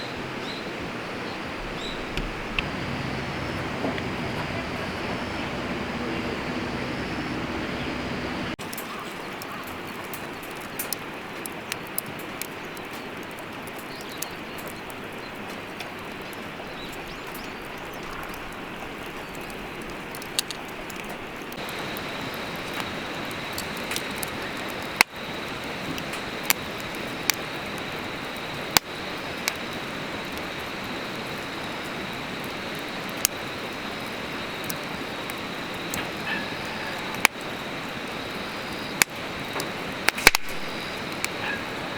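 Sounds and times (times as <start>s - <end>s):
firewood crackling and popping: 1.2s - 41.9s.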